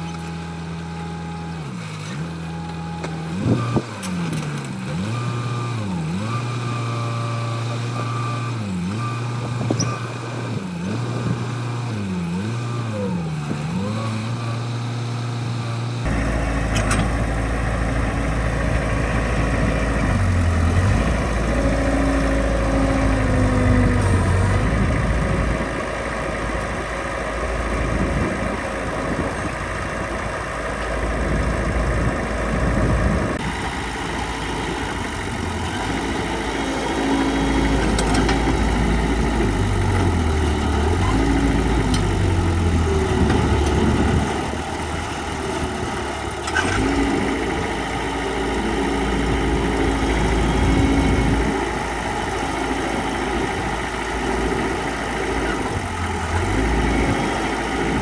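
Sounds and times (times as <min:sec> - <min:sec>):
heavy machine diesel engine running: 0:00.0 - 0:58.0.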